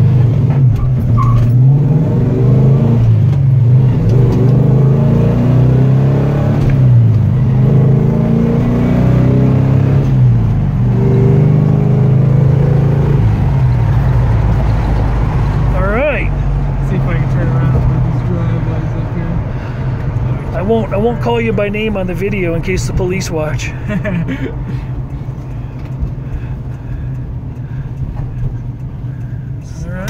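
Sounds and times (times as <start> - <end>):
car engine accelerating through gears: 0.0 - 30.0.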